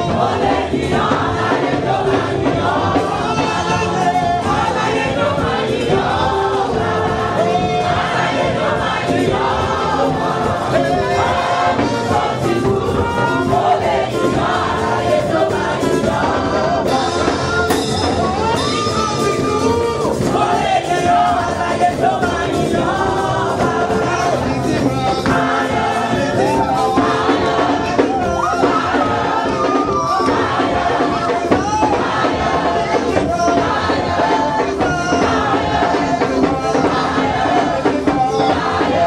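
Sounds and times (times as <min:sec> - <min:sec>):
congregation singing: 0:00.0 - 0:39.0
keyboard: 0:00.0 - 0:39.0.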